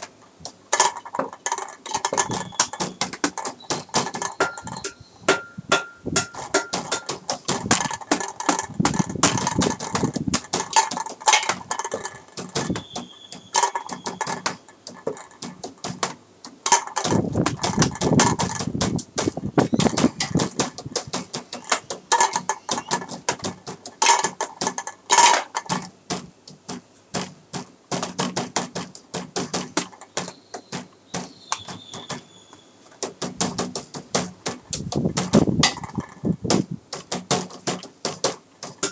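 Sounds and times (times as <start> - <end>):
tapping on everyday objects: 0.0 - 32.3, 32.9 - 38.9.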